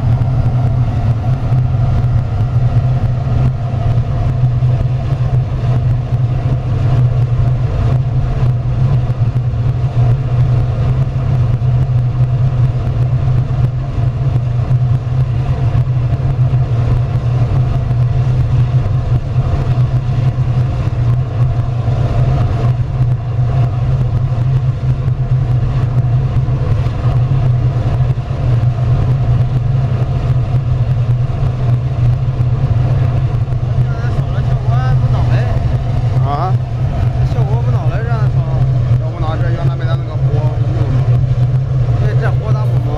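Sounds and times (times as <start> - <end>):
furnace rumbling: 0.0 - 42.9.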